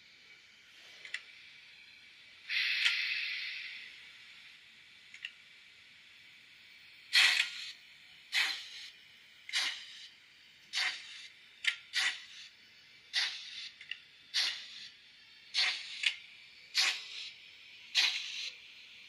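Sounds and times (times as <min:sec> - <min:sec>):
steam locomotive chuffs: 0:00.3 - 0:04.3, 0:06.8 - 0:19.0.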